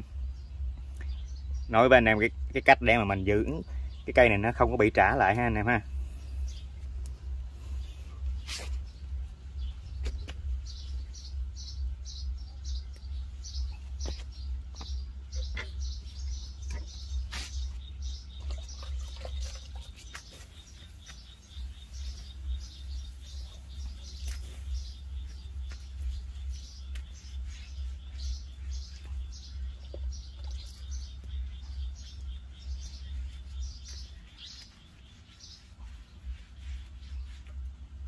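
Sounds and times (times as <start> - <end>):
bird chirping: 0.0 - 38.0
steady low rumble: 0.0 - 38.0.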